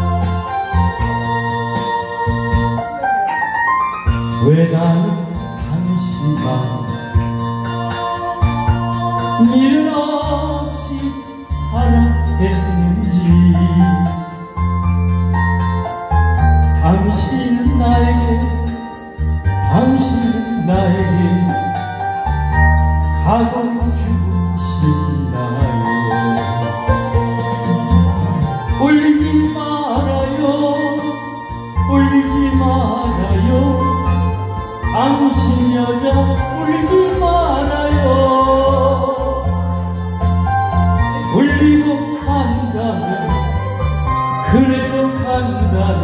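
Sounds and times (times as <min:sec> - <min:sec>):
man singing into a microphone: 0:00.0 - 0:15.4, 0:16.7 - 0:22.4, 0:23.0 - 0:40.1, 0:41.0 - 0:46.0
backing track with keyboard and bass: 0:00.0 - 0:46.0.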